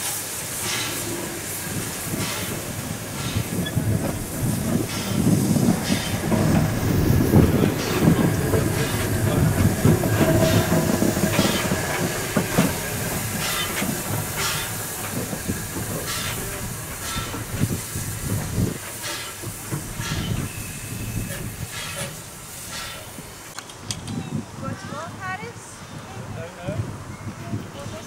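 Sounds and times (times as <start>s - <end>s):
steam locomotive hissing: 0.0s - 23.6s.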